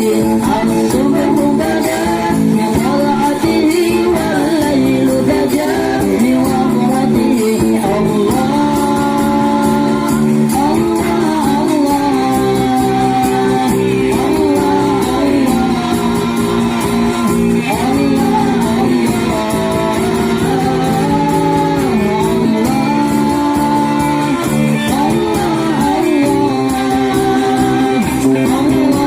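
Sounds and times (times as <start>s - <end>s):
instrumental accompaniment: 0.0s - 29.0s
person singing devotional song: 0.0s - 29.0s.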